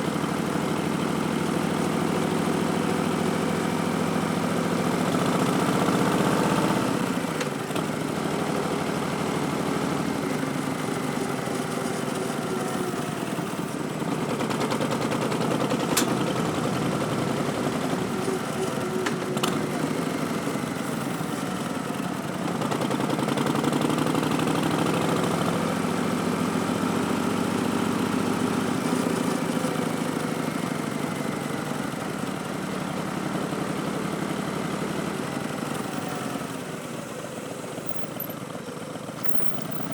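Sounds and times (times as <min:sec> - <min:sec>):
motorcycle engine revving: 0:00.8 - 0:36.7.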